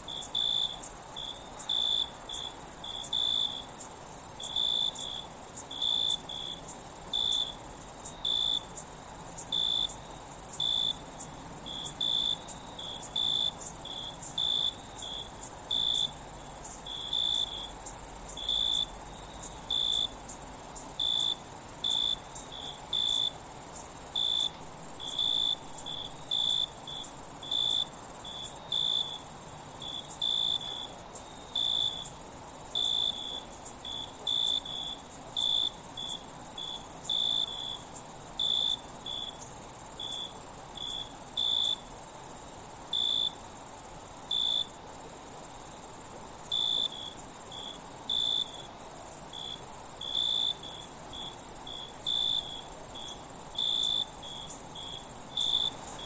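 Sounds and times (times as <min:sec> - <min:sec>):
crickets chirping: 0:00.0 - 0:56.0
high insect trill: 0:00.0 - 0:56.0.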